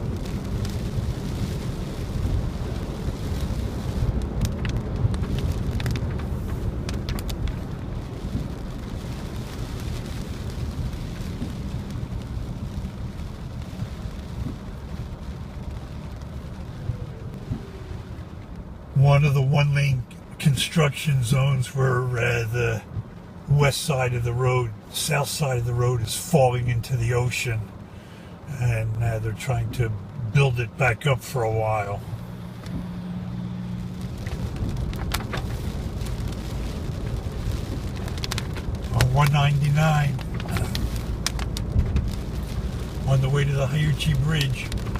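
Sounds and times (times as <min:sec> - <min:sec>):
car cabin road noise: 0:00.0 - 0:44.9.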